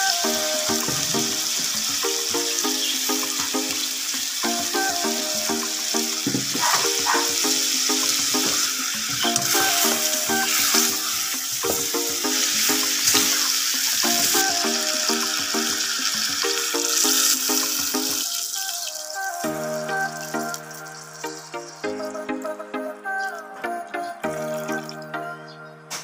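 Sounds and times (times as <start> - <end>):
pot sizzling: 0.0 - 21.8
instrumental background music: 0.0 - 26.0.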